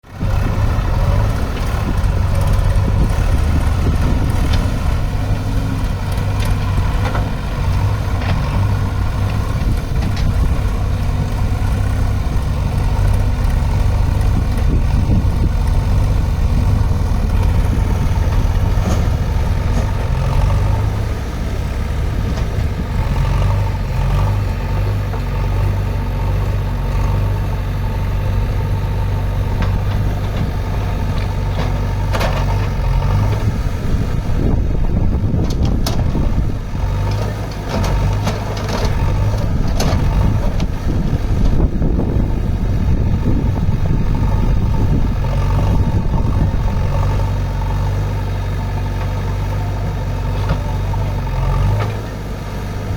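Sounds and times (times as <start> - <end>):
large diesel engine running: 0.0 - 52.9.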